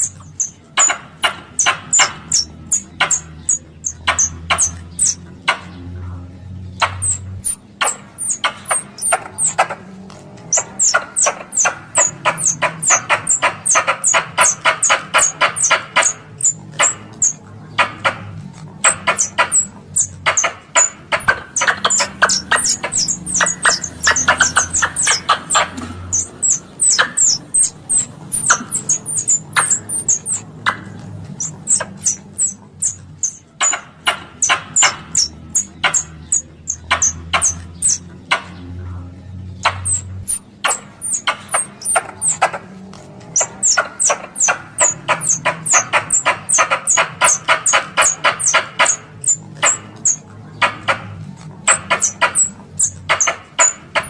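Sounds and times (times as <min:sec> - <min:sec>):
squirrel call chips and trills: 0:00.0 - 0:06.0, 0:06.7 - 0:54.0
steady low hum: 0:00.0 - 0:54.0.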